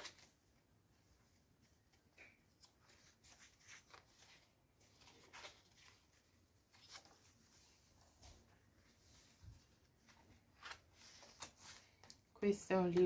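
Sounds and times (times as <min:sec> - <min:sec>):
paper pages turning: 0:00.0 - 0:00.4, 0:01.6 - 0:12.3.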